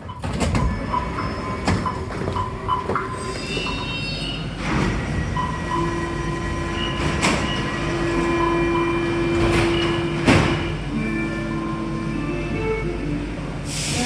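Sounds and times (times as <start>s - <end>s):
metro train interior hum: 0.0s - 14.0s.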